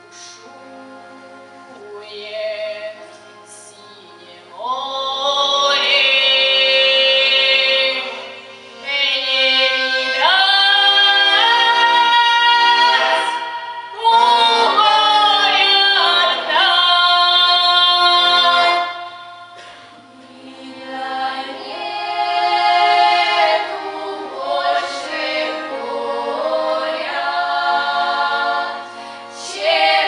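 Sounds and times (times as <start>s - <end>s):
women's folk choir singing: 0.0s - 30.0s.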